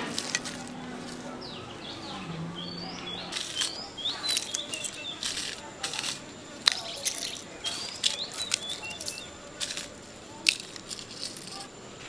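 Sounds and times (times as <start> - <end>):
utensils clicking: 0.0 - 1.3, 3.3 - 11.7
birds chirping: 0.0 - 12.0.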